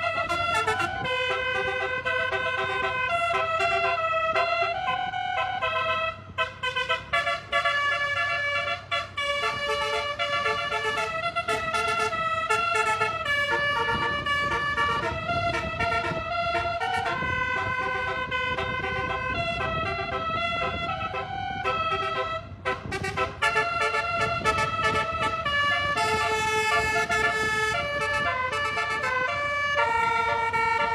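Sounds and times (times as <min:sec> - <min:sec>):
musical air horn playing tune: 0:00.0 - 0:30.9.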